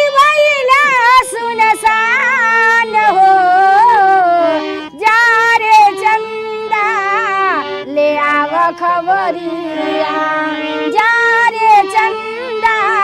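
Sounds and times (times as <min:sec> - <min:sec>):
woman singing folk song: 0:00.0 - 0:13.0.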